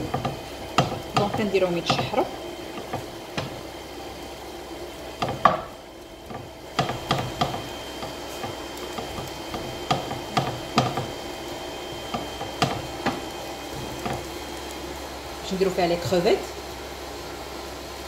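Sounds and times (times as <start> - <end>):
vegetables sizzling: 0.0 - 18.0.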